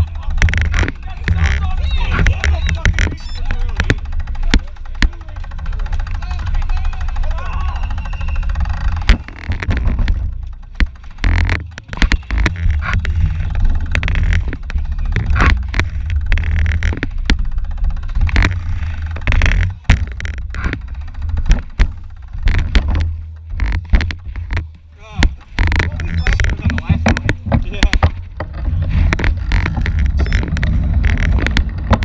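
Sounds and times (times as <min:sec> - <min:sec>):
sharp clicks and rattles: 0:00.0 - 0:32.0.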